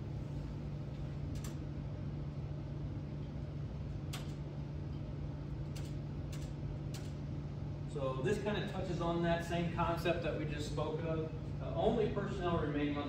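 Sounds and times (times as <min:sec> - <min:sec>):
ventilation hum: 0:00.0 - 0:13.0.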